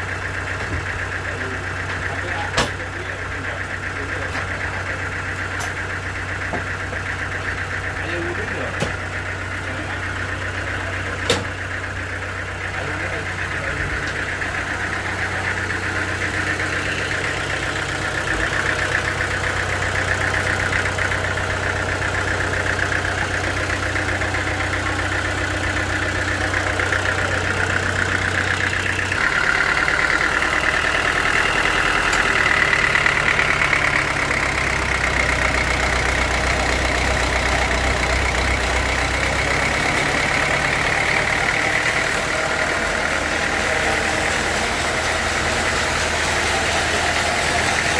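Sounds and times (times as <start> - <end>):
sawmill machinery hum: 0.0 - 47.9
sawmill machinery whine: 0.0 - 47.9.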